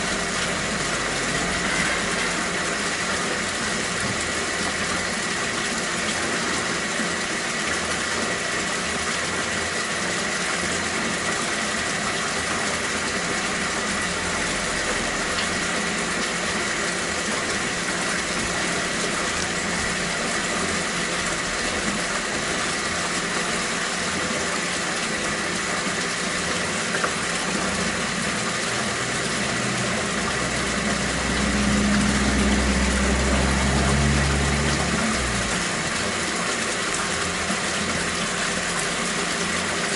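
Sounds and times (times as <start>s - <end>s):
running water hiss: 0.0s - 7.5s, 9.9s - 39.9s.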